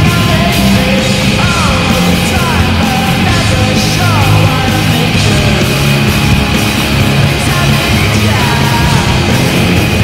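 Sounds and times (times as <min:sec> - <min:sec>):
hard rock music with singing: 0:00.0 - 0:10.0.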